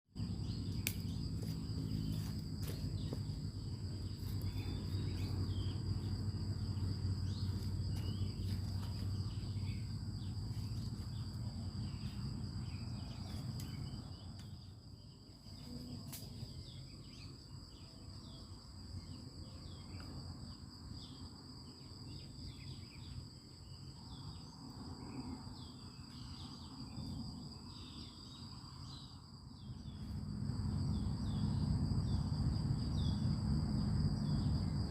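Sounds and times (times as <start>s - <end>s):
insects droning: 0.2s - 34.9s.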